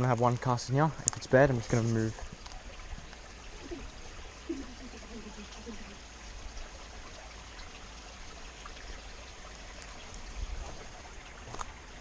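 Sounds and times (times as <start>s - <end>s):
stream over small waterfall: 0.0s - 12.0s.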